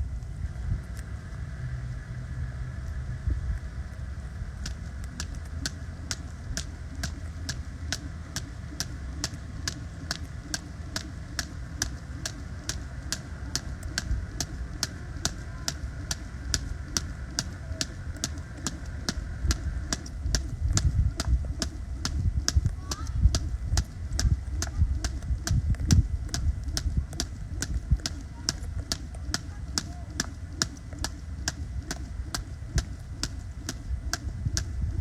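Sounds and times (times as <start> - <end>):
steady low rumble: 0.0 - 35.0
jump rope slapping the ground: 4.6 - 35.0.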